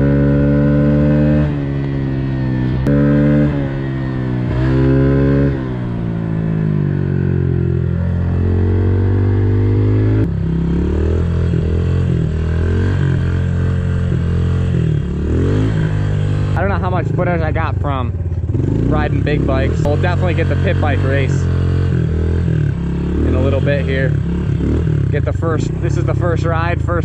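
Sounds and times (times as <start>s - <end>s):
motorbike engine revving: 0.0s - 27.0s.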